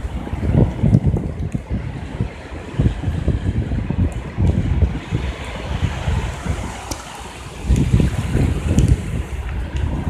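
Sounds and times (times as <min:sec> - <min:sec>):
shallow surf on sand: 0:00.0 - 0:10.0
wind buffeting microphone: 0:00.0 - 0:10.0.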